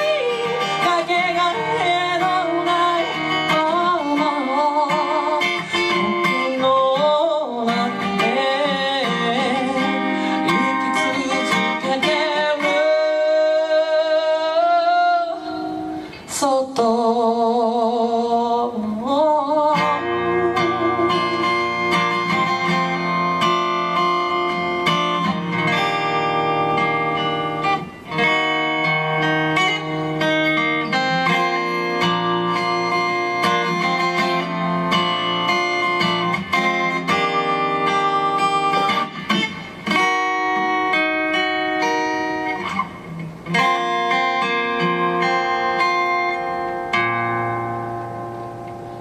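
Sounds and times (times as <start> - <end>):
guitar plucked notes and chords: 0.0 - 49.0.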